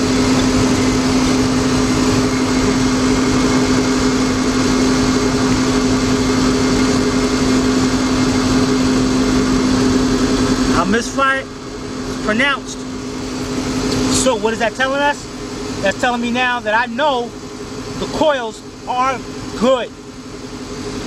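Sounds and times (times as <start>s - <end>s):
car engine idling with misfire: 0.0s - 21.0s.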